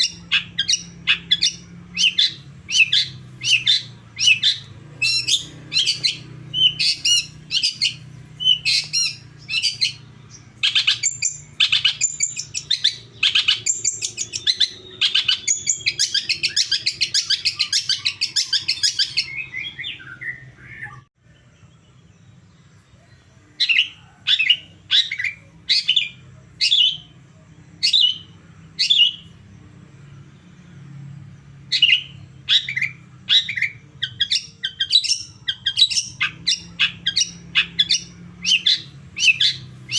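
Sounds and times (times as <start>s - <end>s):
shrike calling: 0.0s - 22.0s, 22.8s - 39.9s.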